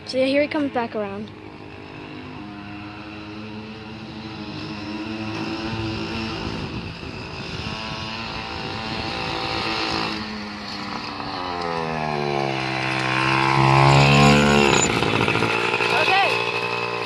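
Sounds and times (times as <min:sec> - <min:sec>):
mini motorcycle engine running: 0:00.0 - 0:17.0.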